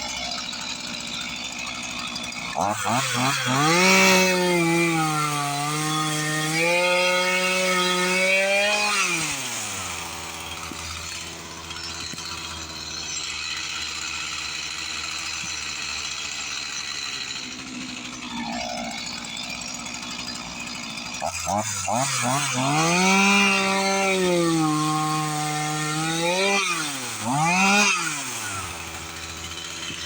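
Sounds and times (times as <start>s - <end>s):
chainsaw engine revving then idling: 0.0s - 30.0s.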